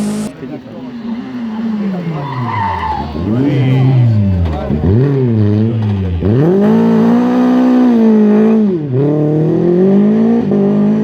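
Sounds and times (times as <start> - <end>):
rally car engine revving high: 0.0 - 0.4, 1.4 - 11.0.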